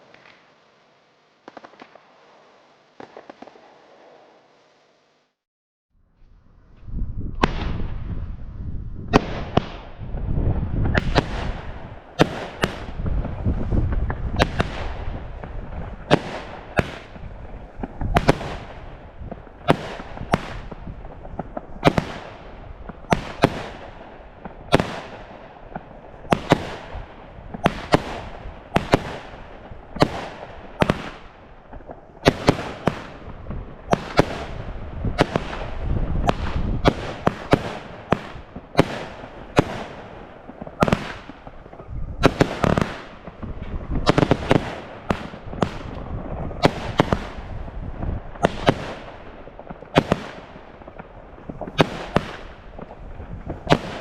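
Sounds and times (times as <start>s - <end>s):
crackling firework bursts: 0.0s - 5.4s, 9.1s - 54.0s
firework bangs: 1.4s - 4.5s, 9.1s - 54.0s
rumble of firework launches: 6.2s - 54.0s.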